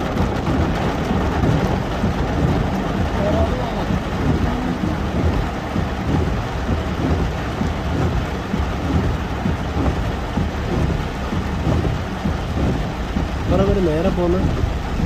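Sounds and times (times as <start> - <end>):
heavy rain on a car: 0.0 - 15.0
low car rumble: 0.0 - 15.0.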